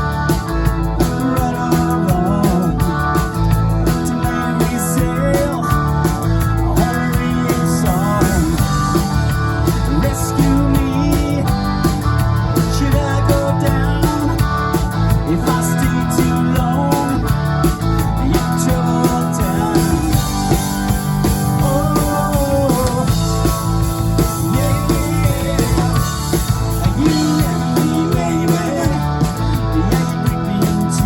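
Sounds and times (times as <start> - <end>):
bass guitar: 0.0 - 31.0
drum kit beat: 0.0 - 31.0
guitar: 0.0 - 31.0.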